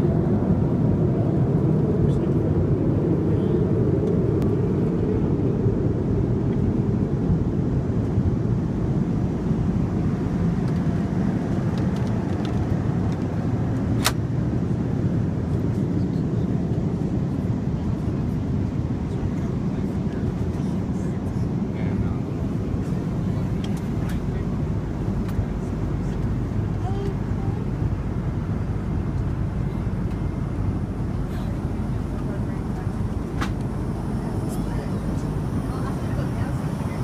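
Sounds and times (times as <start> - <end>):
airplane cabin engine hum: 0.0 - 37.0.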